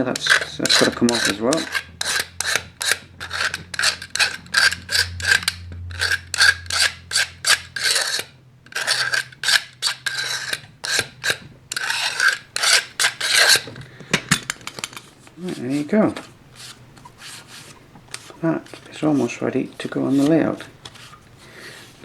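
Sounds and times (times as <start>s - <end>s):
knife blade scraping plastic edge: 0.0s - 13.7s, 14.6s - 22.0s.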